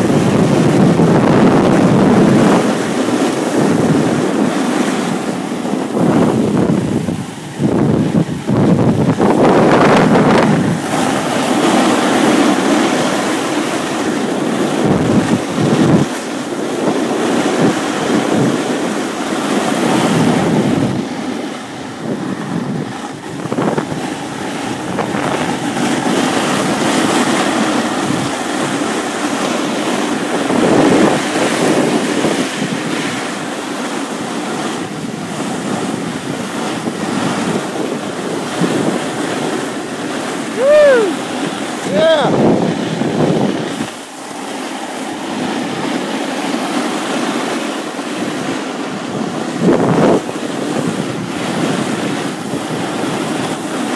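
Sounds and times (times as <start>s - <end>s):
snowboard scraping over snow: 0.0s - 53.9s
wind buffeting microphone: 0.0s - 53.9s.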